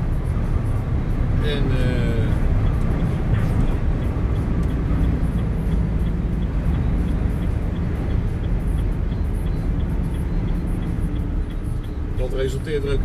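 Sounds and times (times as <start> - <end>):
diesel engine rumble: 0.0 - 13.0
road noise: 0.0 - 13.0
faint light ticking: 2.2 - 13.0.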